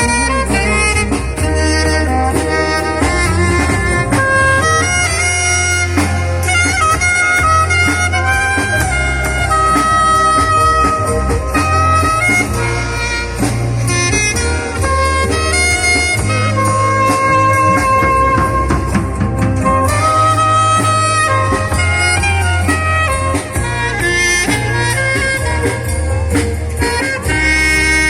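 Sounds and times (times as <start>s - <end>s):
band playing: 0.0s - 28.0s
heavy bass: 0.0s - 28.0s.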